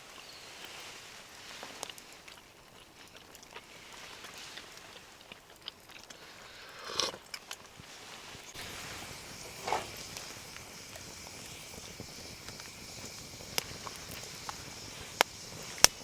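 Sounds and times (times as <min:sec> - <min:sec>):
campfire crackling: 0:00.1 - 0:16.0.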